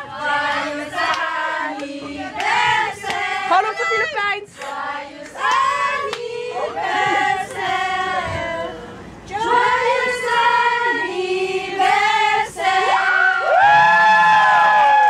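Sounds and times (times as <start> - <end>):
group singing a birthday song: 0.0 - 13.2.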